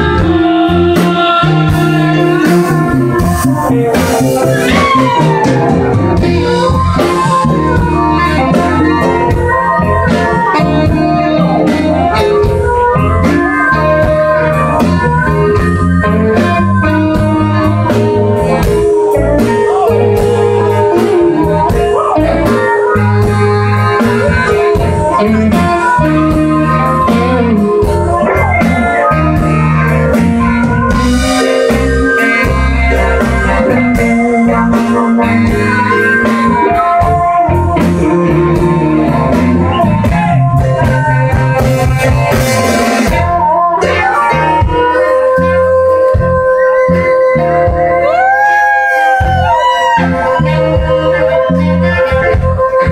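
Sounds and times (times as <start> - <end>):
blues band playing: 0.0 - 52.9
harmonica: 0.0 - 52.9.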